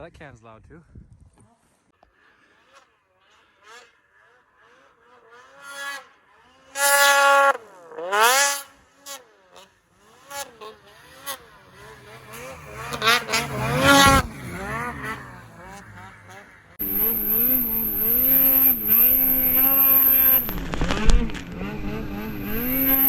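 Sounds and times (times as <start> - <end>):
snowmobile engine revving: 3.3 - 23.0.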